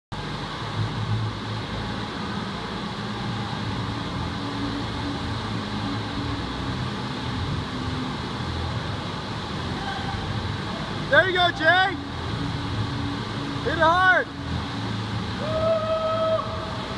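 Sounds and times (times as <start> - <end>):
low even hum: 0.1 - 16.9
water rushing: 0.2 - 16.9.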